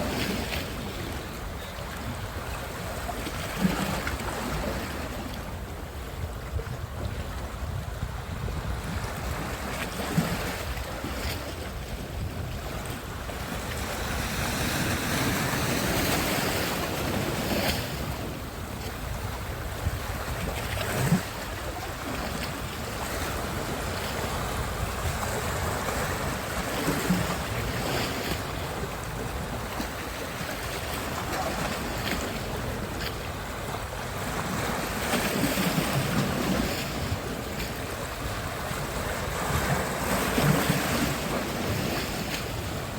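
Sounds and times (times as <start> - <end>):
waves breaking on beach: 0.0 - 42.9
wind rumbling on microphone: 0.0 - 42.9.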